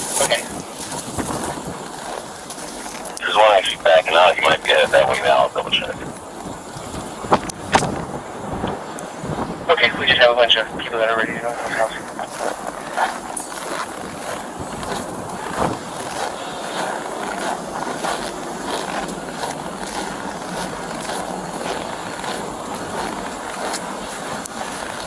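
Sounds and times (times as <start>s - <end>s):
footsteps crunching on snow: 0.0s - 25.0s
wind buffeting microphone: 0.0s - 25.0s.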